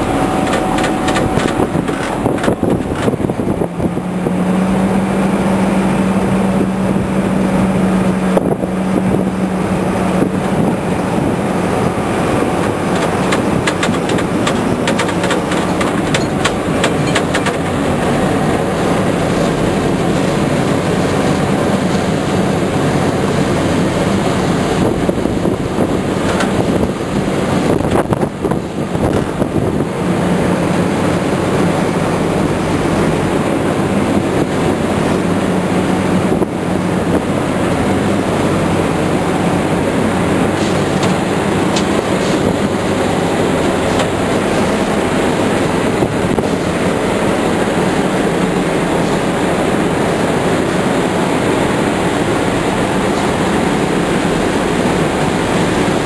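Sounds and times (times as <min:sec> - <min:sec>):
engines running: 0:00.0 - 0:56.0
low hum: 0:00.0 - 0:56.0.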